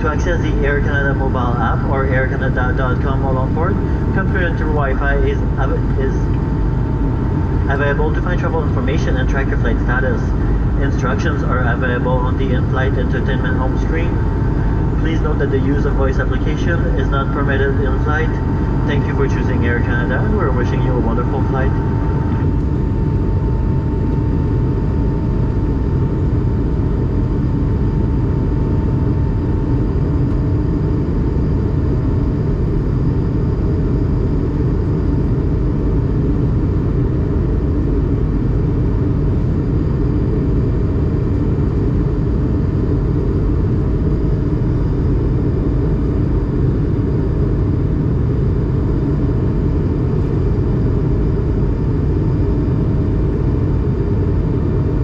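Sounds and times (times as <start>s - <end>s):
aircraft cabin engine rumble: 0.0s - 55.0s.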